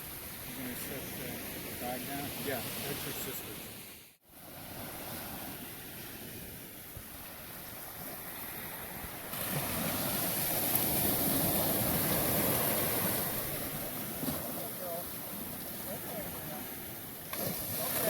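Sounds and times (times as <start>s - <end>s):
ocean surf washing on beach: 0.0s - 18.0s.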